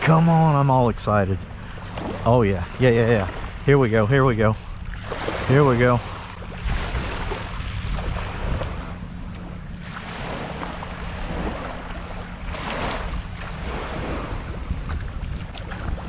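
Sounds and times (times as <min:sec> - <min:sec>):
surf waves breaking: 0:00.0 - 0:16.0
wind rumble on microphone: 0:00.0 - 0:16.0.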